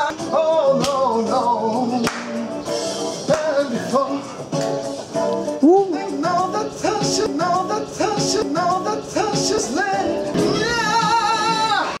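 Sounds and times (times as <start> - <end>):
man singing: 0.0 - 4.6, 5.5 - 12.0.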